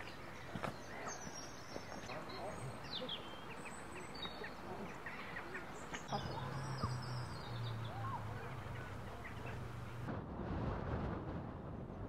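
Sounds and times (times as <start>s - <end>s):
wild birds chirping and whistling: 0.0s - 10.1s.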